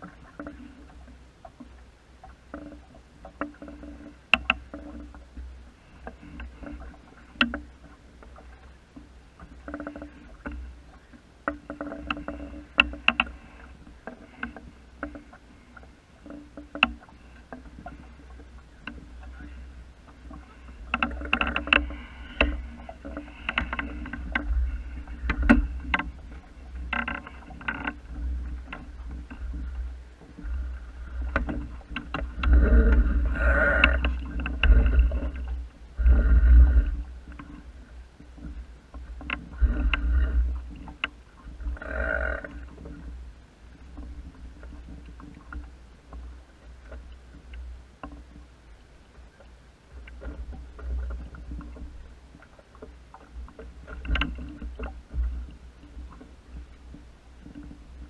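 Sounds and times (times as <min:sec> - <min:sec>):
water lapping against wooden hull: 0:00.0 - 0:58.0.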